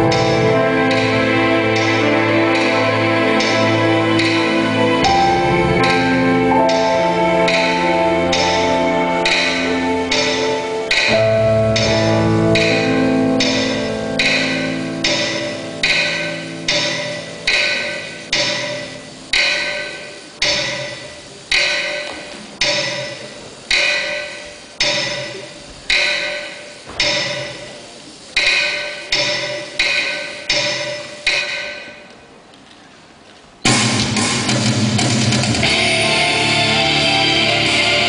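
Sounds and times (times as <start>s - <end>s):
struck percussion ringing strokes: 0.0s - 32.2s.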